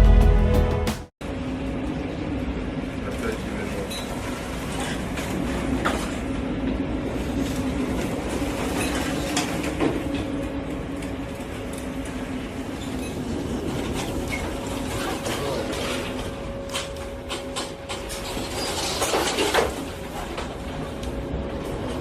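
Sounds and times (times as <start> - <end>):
machinery humming: 1.2 - 22.0.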